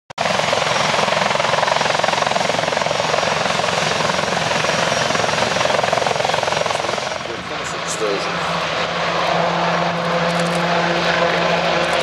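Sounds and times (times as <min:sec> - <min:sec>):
helicopter rotor chop: 0:00.2 - 0:12.0.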